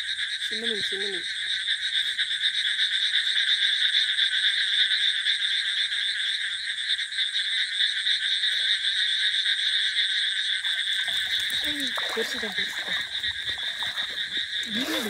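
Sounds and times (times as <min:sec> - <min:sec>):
frogs trilling: 0:00.0 - 0:15.0.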